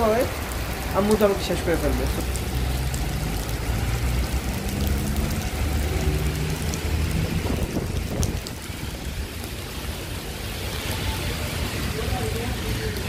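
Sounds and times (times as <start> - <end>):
heavy rain falling: 0.0 - 13.0
rain drop ticks: 0.0 - 13.0.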